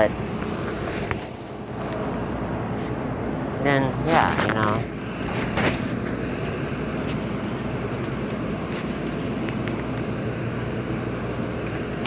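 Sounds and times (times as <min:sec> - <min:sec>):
bus engines idling: 0:00.0 - 0:12.0.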